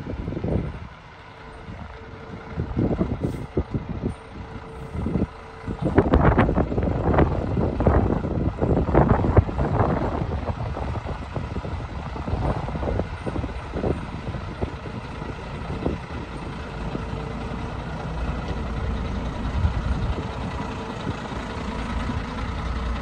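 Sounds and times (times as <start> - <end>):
truck engine running at low speed: 0.0 - 23.0.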